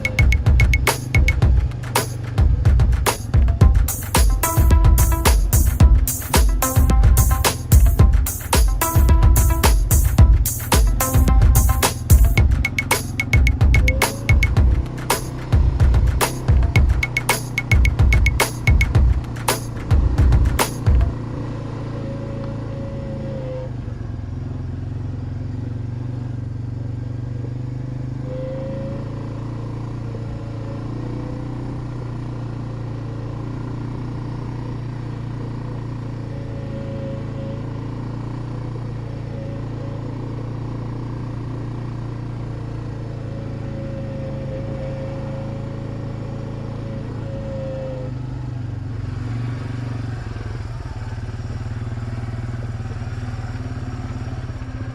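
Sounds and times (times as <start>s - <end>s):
single-cylinder engine running: 0.0s - 28.2s, 29.0s - 54.9s.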